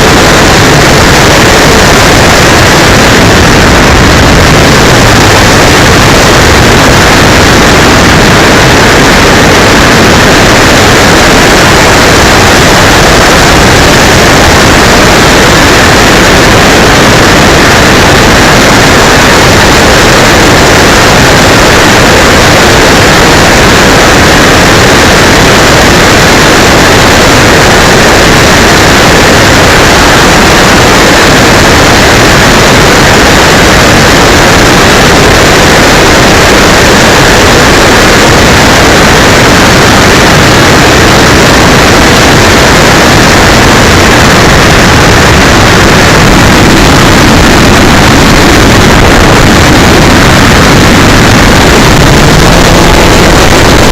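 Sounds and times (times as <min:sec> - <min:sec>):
distorted wind and propeller noise: 0:00.0 - 0:53.9.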